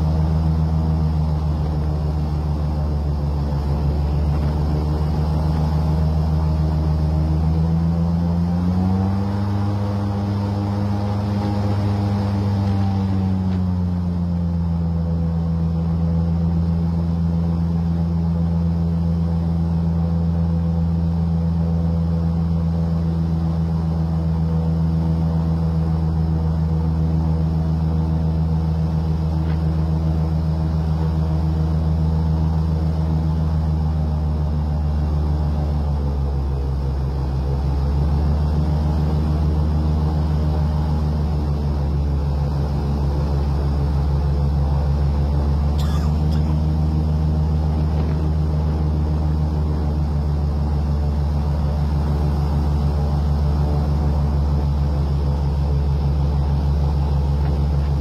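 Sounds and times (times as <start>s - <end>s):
airboat engine and propeller drone: 0.0s - 58.0s.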